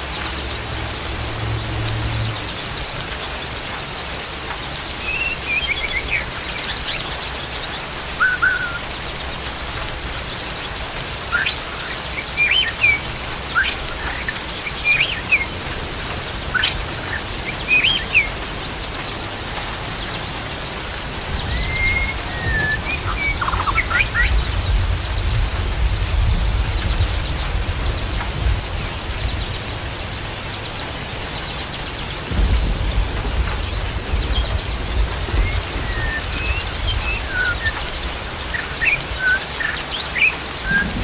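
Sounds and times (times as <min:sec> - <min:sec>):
birds chirping and whistling: 0:00.0 - 0:41.0
steady background hiss: 0:00.0 - 0:41.0.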